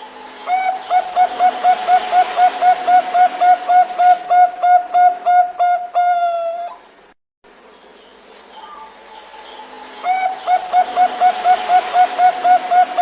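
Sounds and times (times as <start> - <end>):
dove cooing: 0.0 - 6.9, 8.6 - 13.0.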